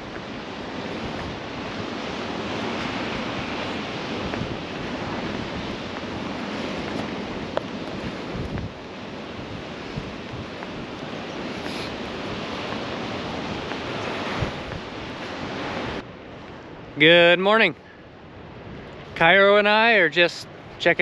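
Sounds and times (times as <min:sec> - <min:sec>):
wind buffeting microphone: 0:00.0 - 0:19.5
ocean surf washing onto beach: 0:00.0 - 0:21.0.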